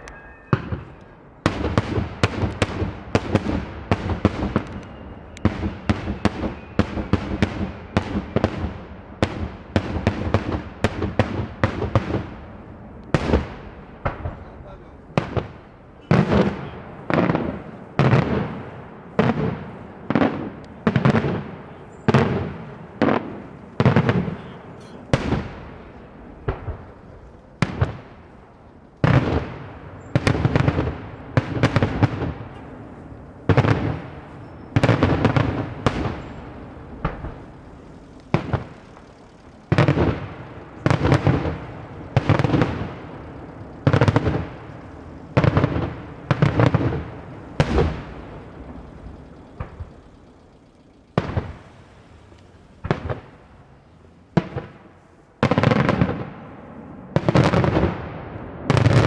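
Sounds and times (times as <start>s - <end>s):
fireworks bangs with echo: 0.0s - 51.9s, 52.7s - 59.0s.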